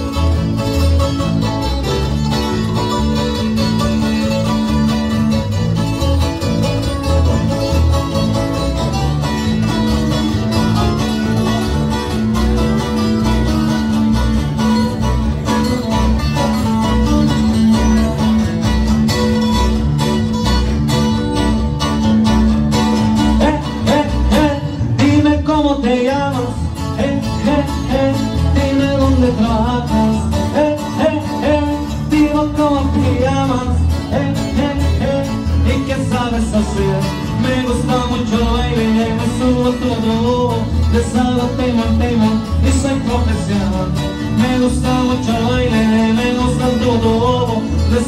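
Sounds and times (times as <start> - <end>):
live band dance music: 0.0 - 48.0.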